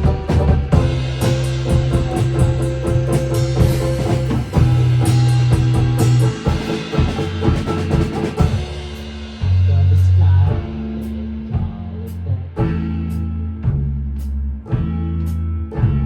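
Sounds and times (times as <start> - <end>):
drum kit: 0.0 - 16.0
electric bass: 0.0 - 16.0.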